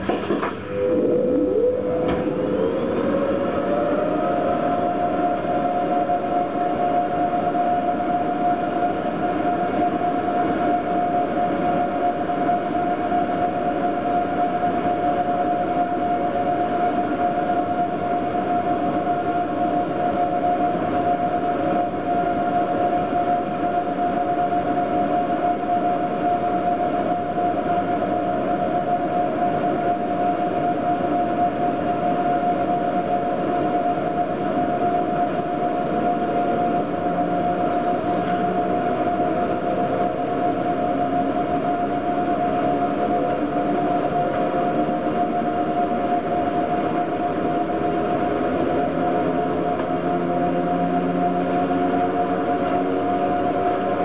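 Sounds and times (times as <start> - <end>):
high-pitched wheel whine: 0.0 - 54.0.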